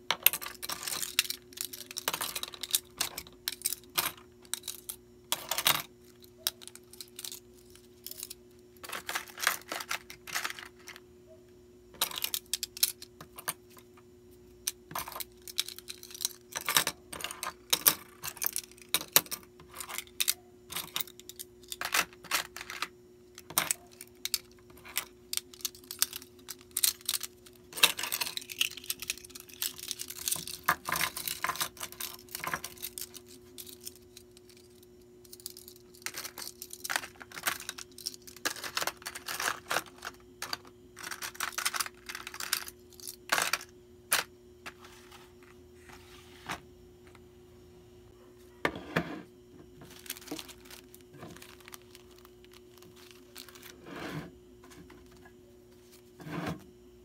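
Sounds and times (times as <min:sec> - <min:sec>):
items and packaging rustling: 0:00.0 - 0:11.1, 0:14.6 - 0:47.2, 0:48.4 - 0:56.7
faint steady hum: 0:00.0 - 0:57.0.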